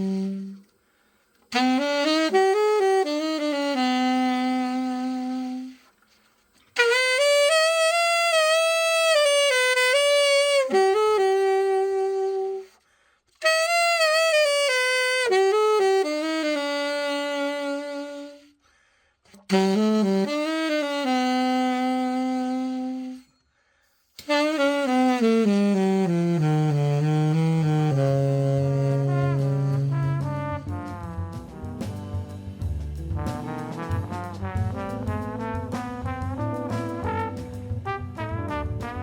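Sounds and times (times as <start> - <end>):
solo alto saxophone: 0.0 - 39.0.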